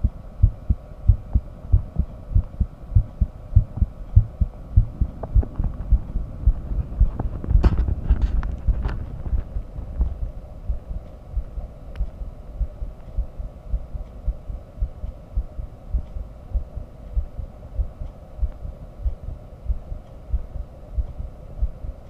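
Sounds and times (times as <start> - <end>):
heartbeat thuds: 0.0 - 21.9.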